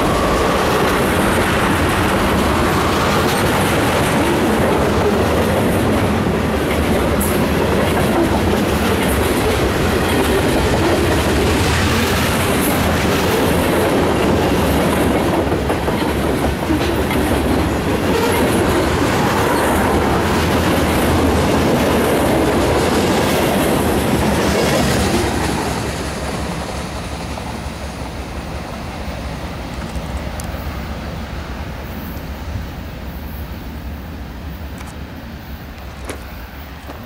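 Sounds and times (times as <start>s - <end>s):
freight train rolling past: 0.0s - 37.0s.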